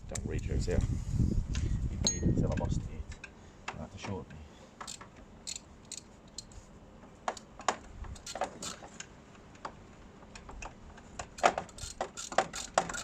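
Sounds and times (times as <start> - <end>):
faint low wind rumble: 0.0 - 12.2.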